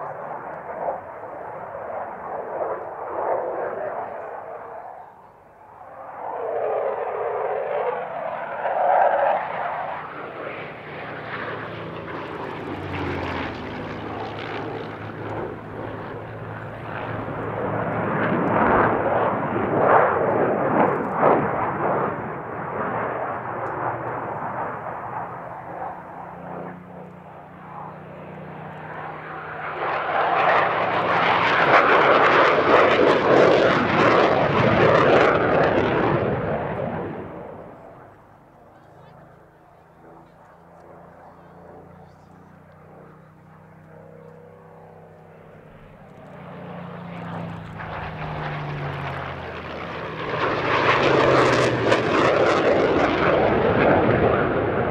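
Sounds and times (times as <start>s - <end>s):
jet engines roaring: 0.0s - 54.9s
propeller plane piston engine: 0.0s - 54.9s.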